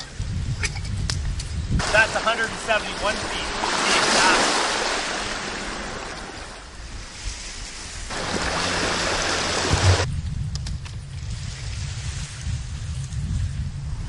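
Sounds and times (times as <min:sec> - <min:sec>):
low wind rumble on microphone: 0:00.0 - 0:14.0
wind and water hiss: 0:00.0 - 0:14.0.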